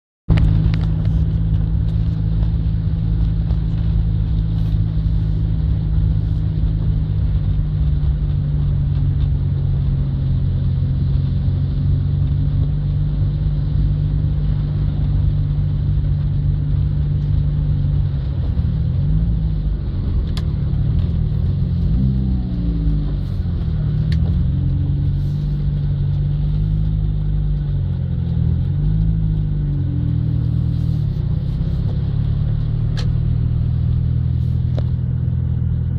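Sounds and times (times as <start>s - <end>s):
car engine droning: 0.3s - 35.9s.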